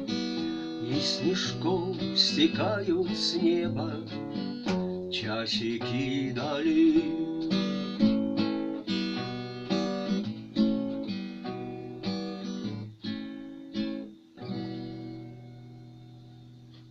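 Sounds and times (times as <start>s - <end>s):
acoustic guitar strumming chords: 0.0s - 16.9s.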